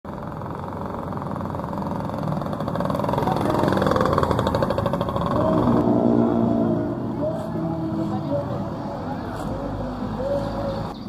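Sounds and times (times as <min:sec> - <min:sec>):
street traffic: 0:00.0 - 0:11.0
motorcycle engine passing: 0:00.1 - 0:10.9.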